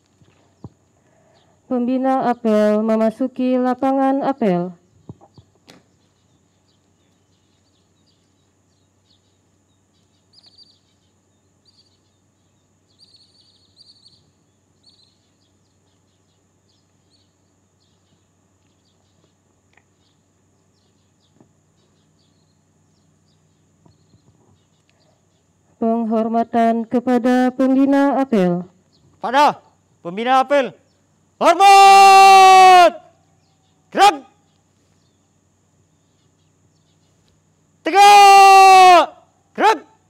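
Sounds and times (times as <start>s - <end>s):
small birds chirping: 0.0s - 27.1s, 27.7s - 31.8s, 33.0s - 38.2s.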